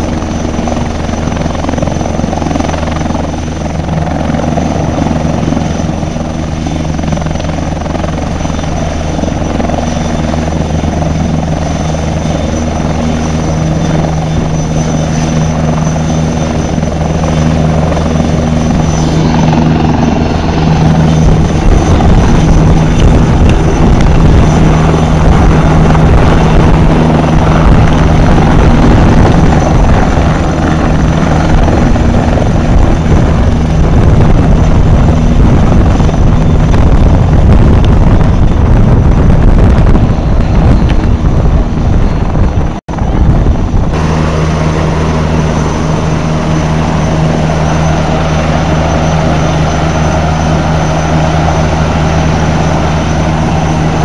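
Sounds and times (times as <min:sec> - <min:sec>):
helicopter rotor drone: 0:00.0 - 0:54.0
high turbine whine: 0:00.0 - 0:54.0.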